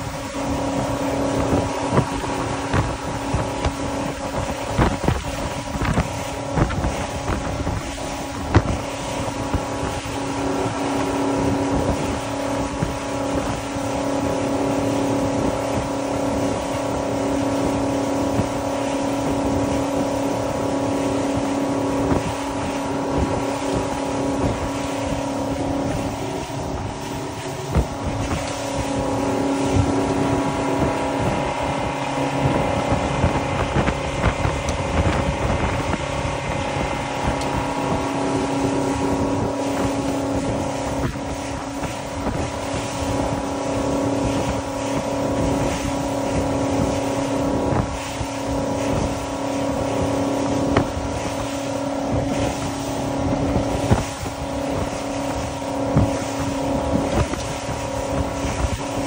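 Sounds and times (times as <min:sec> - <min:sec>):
motorboat engine humming: 0:00.0 - 0:59.0
water rushing past hull: 0:00.0 - 0:59.0
wind buffeting microphone: 0:00.0 - 0:59.0.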